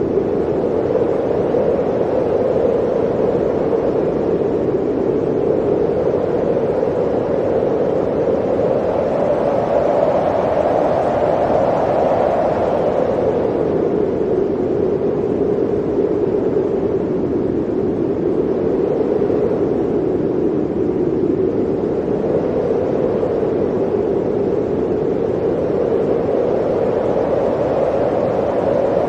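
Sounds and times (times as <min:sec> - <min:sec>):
blizzard wind blowing: 0:00.0 - 0:29.0.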